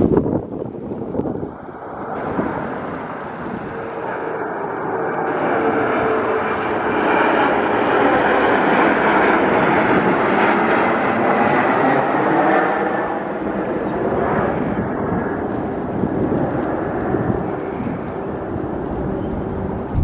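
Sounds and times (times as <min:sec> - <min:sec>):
jet engine whine: 0:00.0 - 0:20.0
jet passing overhead: 0:00.0 - 0:20.0.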